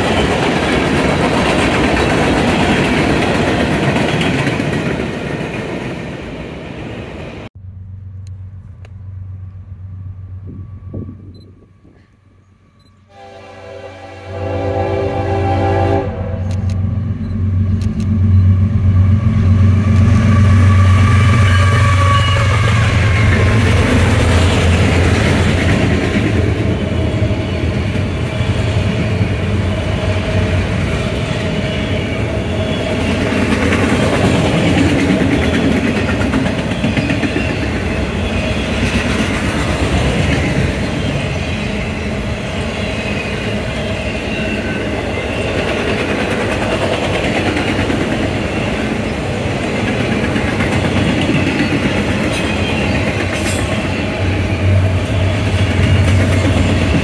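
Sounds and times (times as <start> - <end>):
train wheels rolling on rail: 0.0 - 7.5, 16.4 - 57.0.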